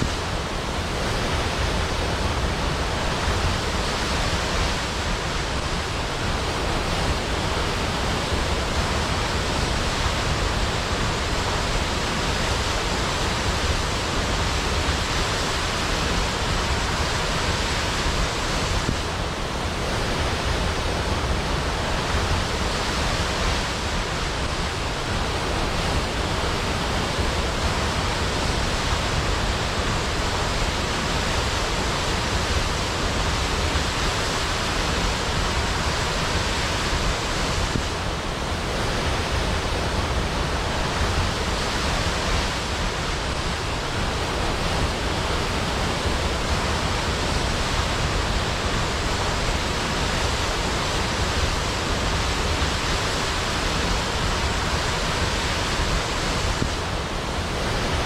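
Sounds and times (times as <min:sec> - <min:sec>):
waterfall rushing into a pool: 0:00.0 - 0:58.0.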